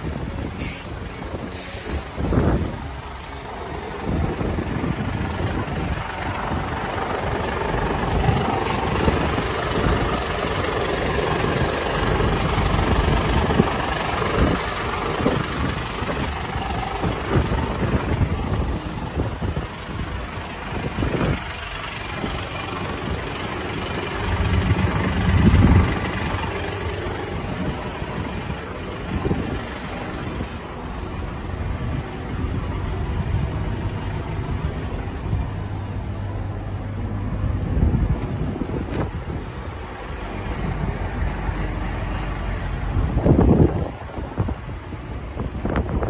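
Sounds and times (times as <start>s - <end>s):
diesel truck engine idling: 0.0s - 46.0s.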